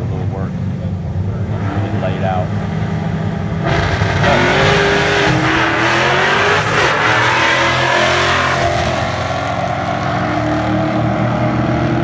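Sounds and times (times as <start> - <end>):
drag car engine accelerating: 0.0 - 12.0.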